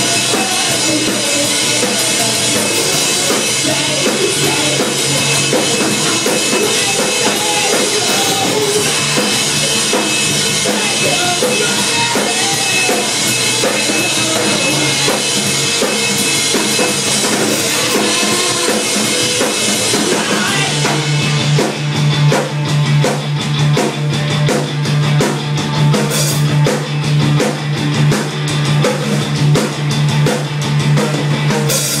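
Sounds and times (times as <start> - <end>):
heavy repeating bass line: 0.0 - 32.0
rock band playing: 0.0 - 32.0.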